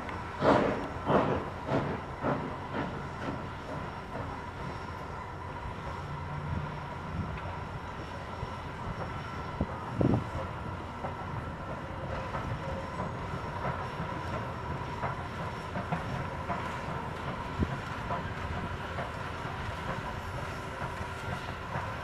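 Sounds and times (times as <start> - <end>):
steam locomotive rumbling past: 0.0 - 22.0.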